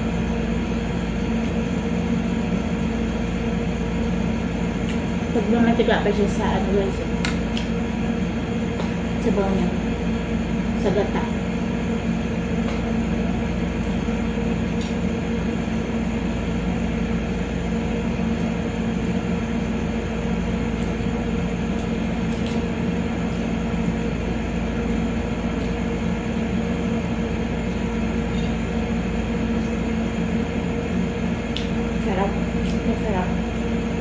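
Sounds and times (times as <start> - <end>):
mechanical hum with low drone: 0.0 - 34.0.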